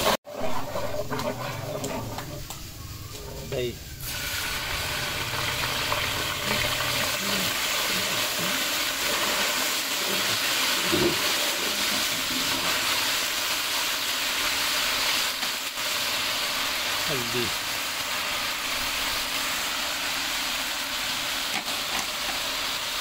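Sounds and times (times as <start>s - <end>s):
yogurt sizzling in hot oil: 0.0s - 23.0s.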